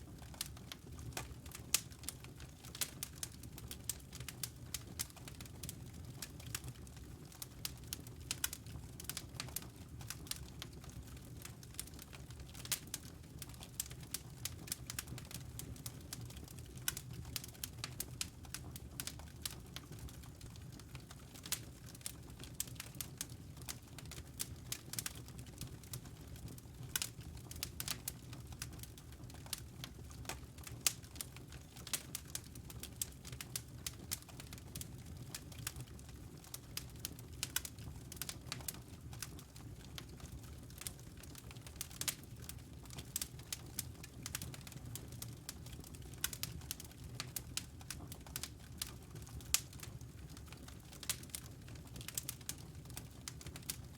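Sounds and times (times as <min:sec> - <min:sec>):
low rumble of flame: 0:00.0 - 0:53.9
wood fire crackling and popping: 0:00.0 - 0:53.9.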